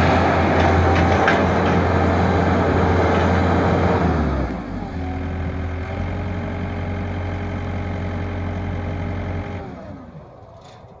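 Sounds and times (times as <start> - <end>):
diesel engine idling and shutting off: 0.0 - 11.0.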